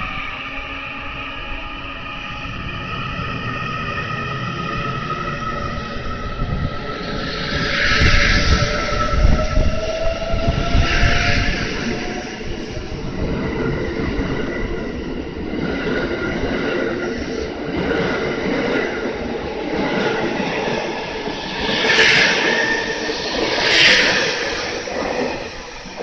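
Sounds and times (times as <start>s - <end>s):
train rolling past slowly: 0.0s - 26.0s.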